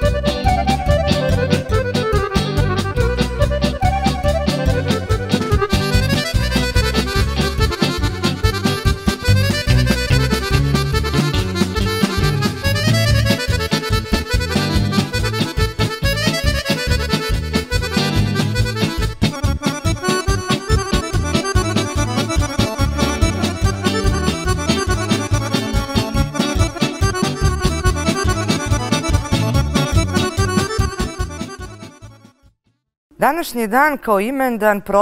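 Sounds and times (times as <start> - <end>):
instrumental band music: 0.0 - 32.3
reedy lead melody: 0.0 - 32.4.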